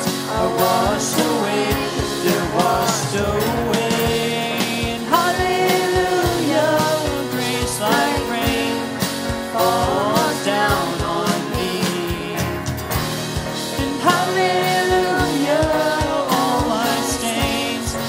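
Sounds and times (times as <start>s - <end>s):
drum beat: 0.0s - 18.0s
rock band playing: 0.0s - 18.0s
sliding melody line: 0.0s - 18.0s.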